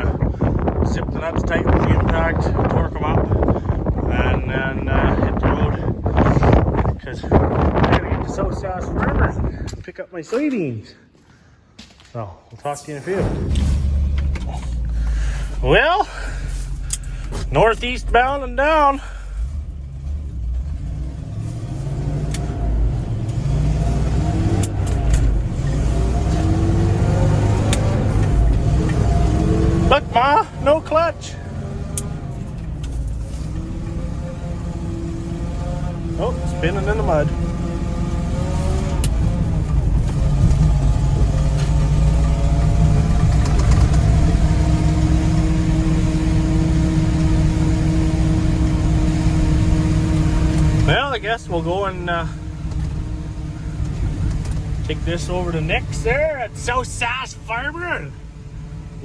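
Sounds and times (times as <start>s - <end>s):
truck engine accelerating: 0.0s - 9.8s, 12.6s - 59.0s.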